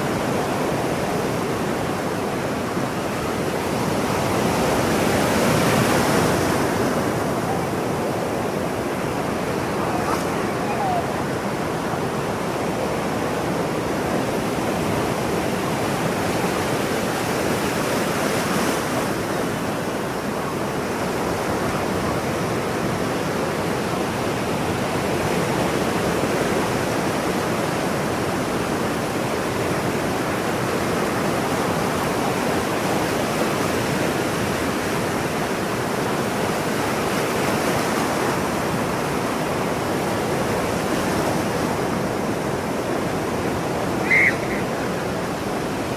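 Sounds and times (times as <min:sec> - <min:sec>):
ocean surf on shore: 0:00.0 - 0:45.9.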